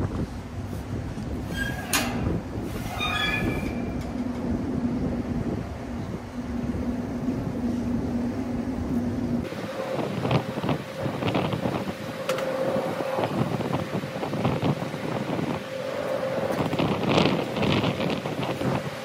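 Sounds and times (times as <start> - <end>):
wind on microphone: 0.0 - 19.0
mechanical hum: 0.1 - 19.0.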